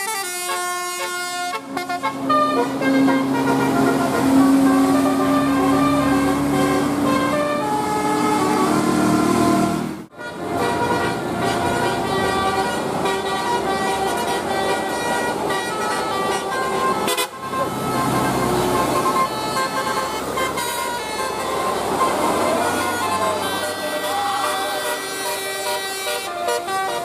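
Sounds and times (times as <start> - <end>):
bus horns playing a tune: 0.0 - 27.0.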